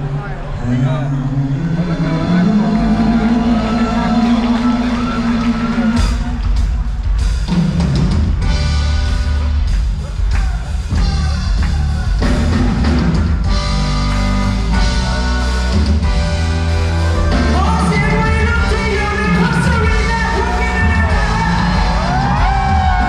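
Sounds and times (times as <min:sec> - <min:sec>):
heavy bass: 0:00.0 - 0:23.0
drum kit: 0:03.4 - 0:23.0.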